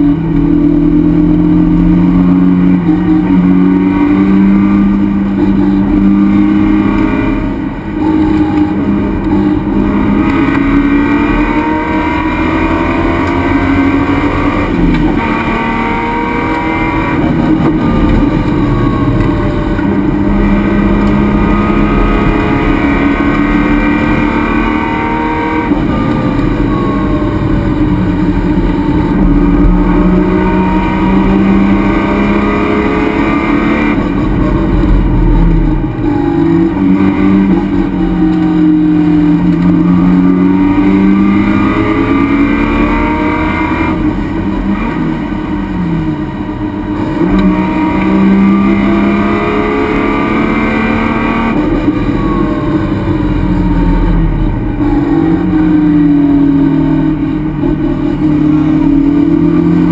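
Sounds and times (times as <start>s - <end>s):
race car engine revving: 0.0s - 59.9s
wind and road noise: 0.0s - 59.9s.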